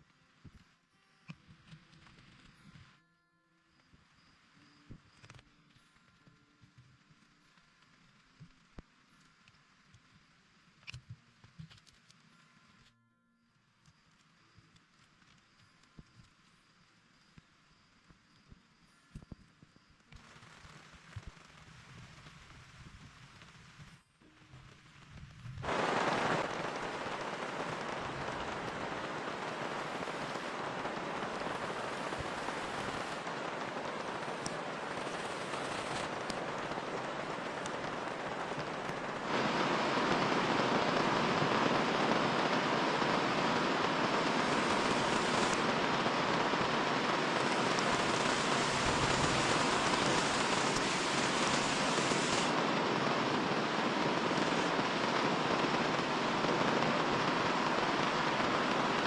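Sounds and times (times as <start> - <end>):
steady rain: 3.8 - 12.7, 20.0 - 59.0.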